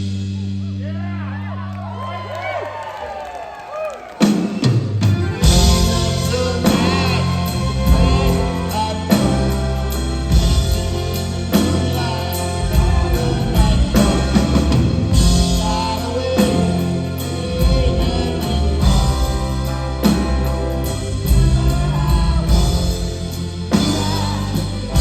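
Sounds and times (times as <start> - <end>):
live rock band playing: 0.0 - 2.3, 4.1 - 25.0.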